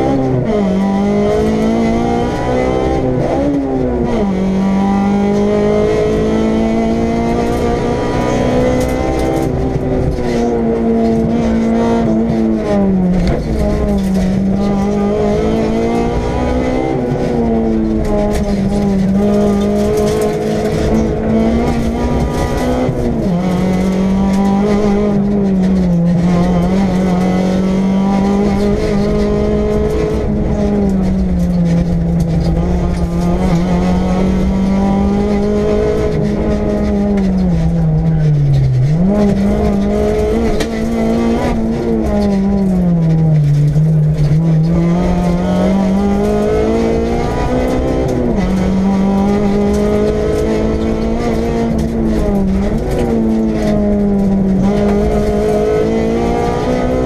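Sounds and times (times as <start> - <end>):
car engine running hard: 0.0 - 57.0
road rumble: 0.0 - 57.0.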